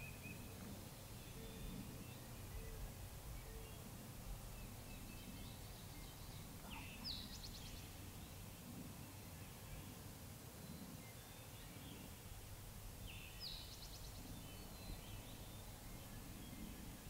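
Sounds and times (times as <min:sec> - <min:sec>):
songbird chirping: 0:00.0 - 0:17.0
woodland ambience: 0:00.0 - 0:17.0.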